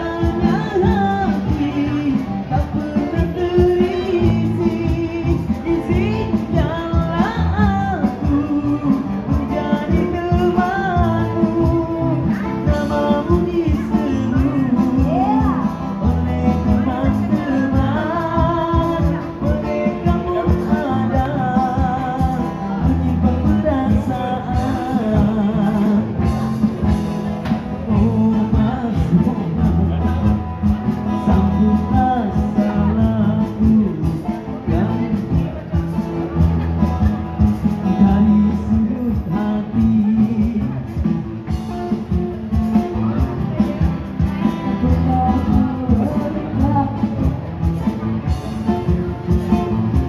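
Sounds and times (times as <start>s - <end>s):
man singing into microphone: 0.0s - 37.0s, 37.6s - 50.0s
bass notes: 0.0s - 50.0s
guitar accompaniment: 0.0s - 50.0s.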